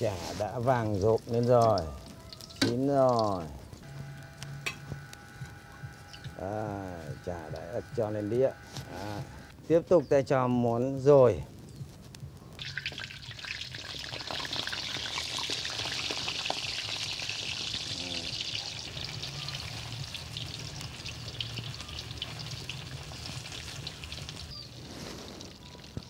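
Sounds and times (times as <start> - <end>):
sausage sizzling in hot oil: 0.0 - 9.5, 12.5 - 26.0.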